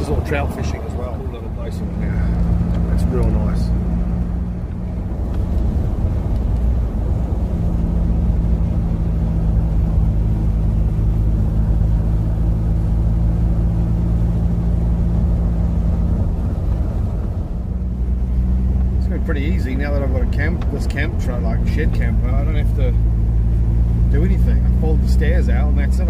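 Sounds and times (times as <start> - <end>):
road noise: 0.0 - 26.0
truck engine running: 0.0 - 26.0.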